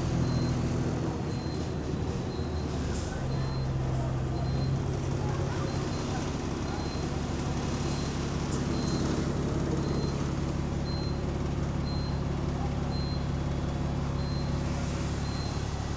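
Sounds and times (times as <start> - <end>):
bus engine droning: 0.0 - 15.9.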